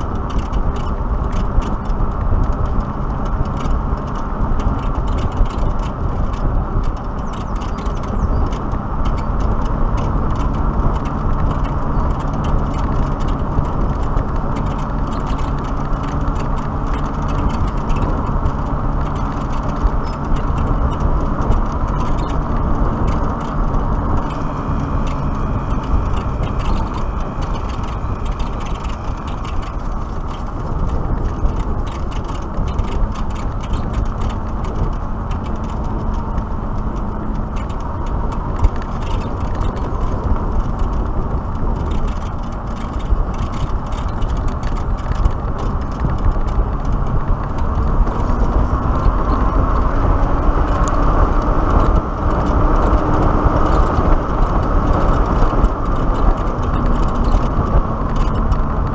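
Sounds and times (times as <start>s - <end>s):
tyre noise: 0.0s - 58.9s
wind rushing over microphone: 0.0s - 58.9s.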